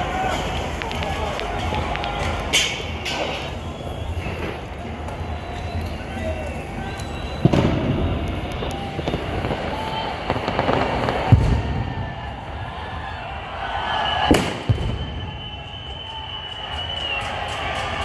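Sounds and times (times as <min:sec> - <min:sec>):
fireworks bangs: 0:00.0 - 0:18.0
steady background din: 0:00.0 - 0:18.0.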